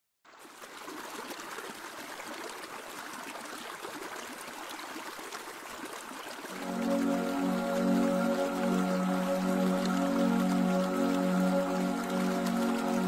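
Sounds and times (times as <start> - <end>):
stream babbling: 0.5 - 13.0.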